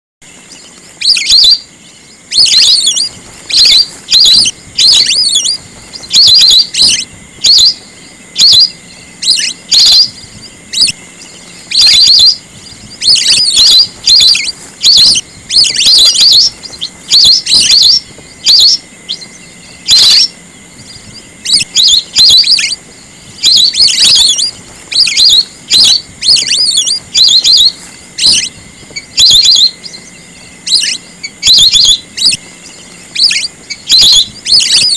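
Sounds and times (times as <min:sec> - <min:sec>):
whistling ducks calling: 0:00.2 - 0:34.9.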